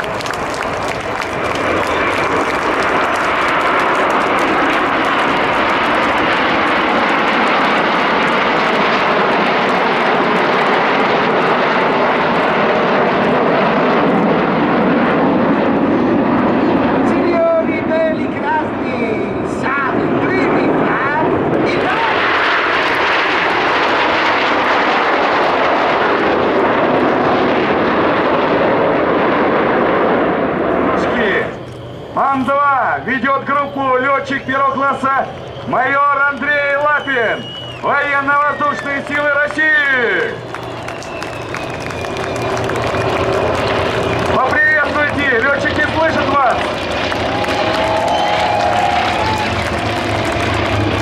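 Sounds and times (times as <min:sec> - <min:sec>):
jet aircraft roaring past: 0:00.0 - 0:51.0.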